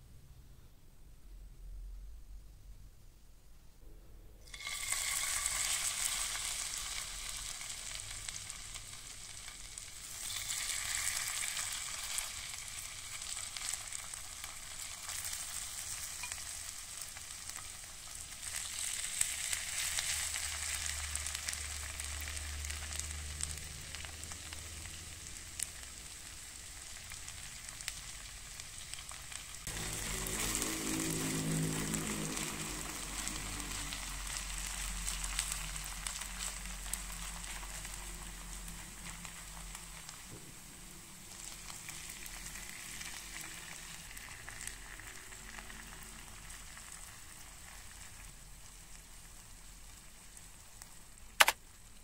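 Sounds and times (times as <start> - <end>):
potato sizzling in hot oil: 4.4 - 52.0.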